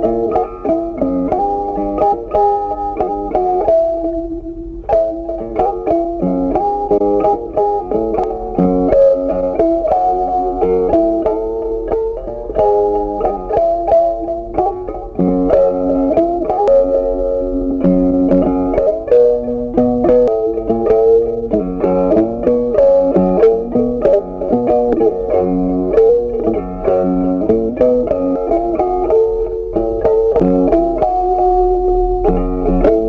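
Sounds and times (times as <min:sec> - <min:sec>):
plucked guitar melody: 0:00.0 - 0:33.0.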